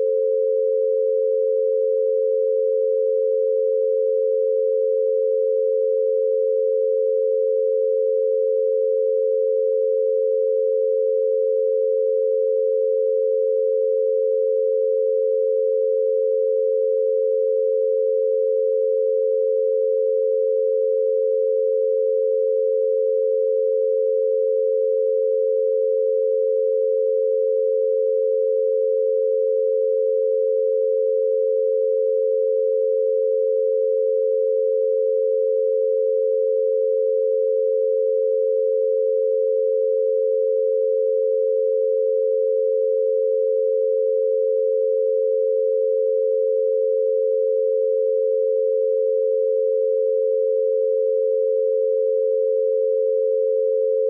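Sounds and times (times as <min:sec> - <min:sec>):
steady pure sine tones: 0:00.0 - 0:54.0.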